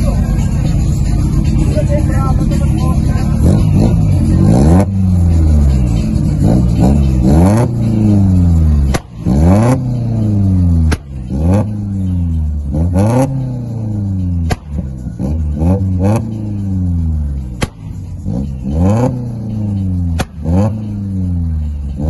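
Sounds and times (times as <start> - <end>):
car engine free-revving: 0.0 - 22.0.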